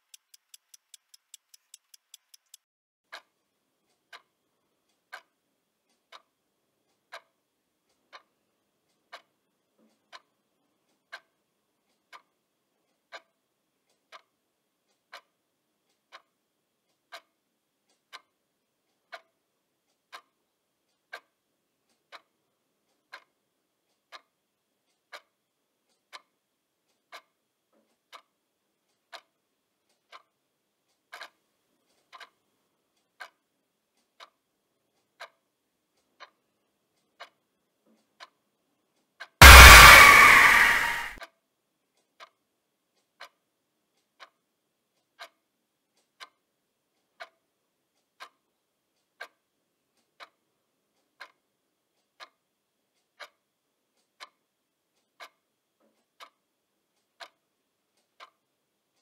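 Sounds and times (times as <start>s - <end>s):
clock ticking faintly: 0.0s - 38.4s, 45.0s - 59.0s.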